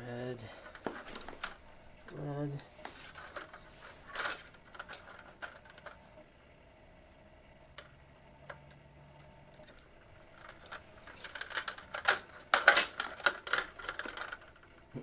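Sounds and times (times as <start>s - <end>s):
small clicks and rattles of wiring: 0.5s - 6.0s, 7.8s - 14.8s.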